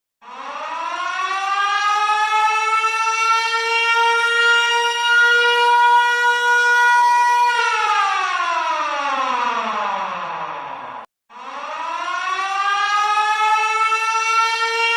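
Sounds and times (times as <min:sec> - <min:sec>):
warning siren wailing: 0:00.2 - 0:14.9.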